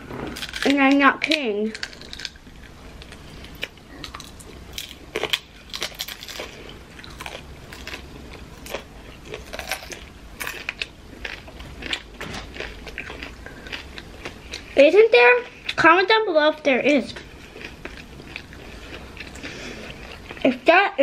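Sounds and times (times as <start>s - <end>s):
crunching and chewing: 0.0s - 14.8s, 17.1s - 20.6s.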